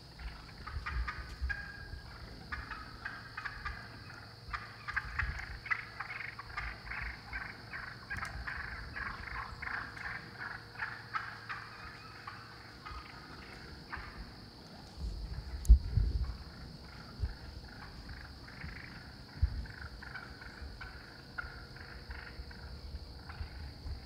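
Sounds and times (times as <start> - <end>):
turkeys rattling purr calls: 0.0 - 24.0.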